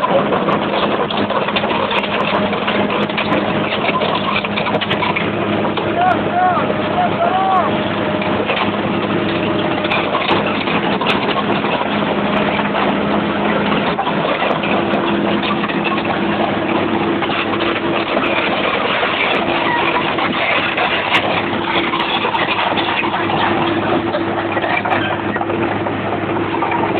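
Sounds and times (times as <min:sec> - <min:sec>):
dense mechanical noise: 0:00.0 - 0:26.9
truck engine running: 0:00.0 - 0:26.9.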